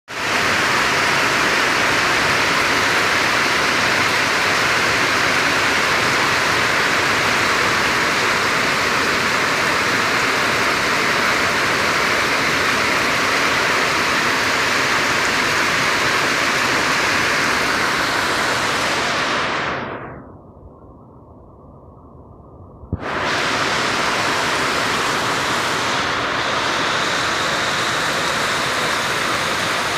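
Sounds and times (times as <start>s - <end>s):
rain falling: 0.1s - 19.7s, 23.0s - 29.9s.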